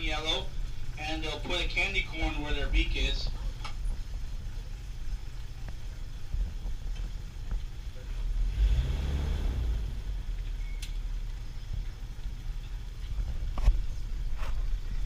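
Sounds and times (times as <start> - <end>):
boat engine rumble: 0.0 - 8.6, 9.6 - 15.0.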